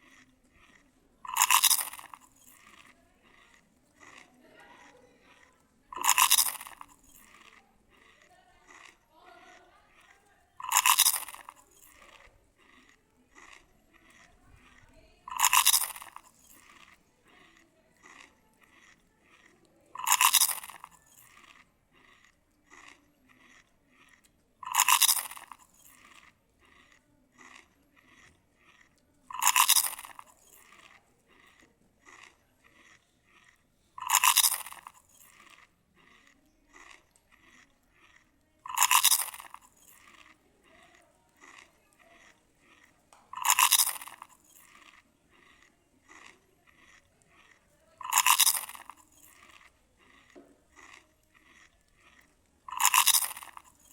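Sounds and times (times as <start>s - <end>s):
crisp crunch of food bitten: 0.0s - 53.9s
soft chewing clicks: 0.0s - 53.9s.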